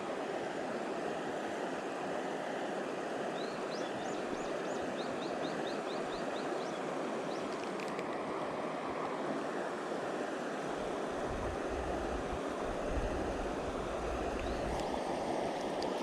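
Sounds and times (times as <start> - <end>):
stream rushing over rocks: 0.0 - 16.0.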